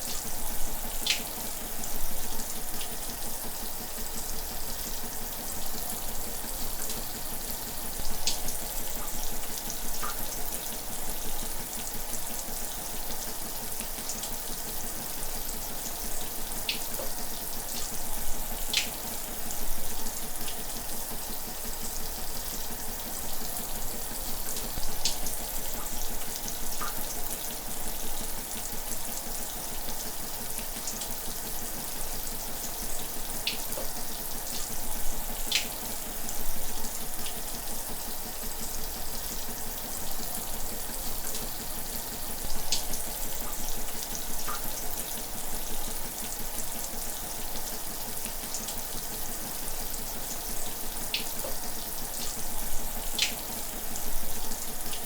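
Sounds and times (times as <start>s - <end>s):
shower running: 0.0s - 55.0s.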